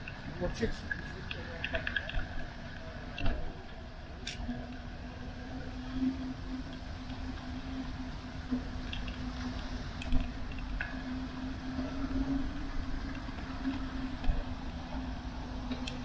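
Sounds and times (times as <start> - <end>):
bicycle tyres on wet asphalt: 0.0 - 16.0.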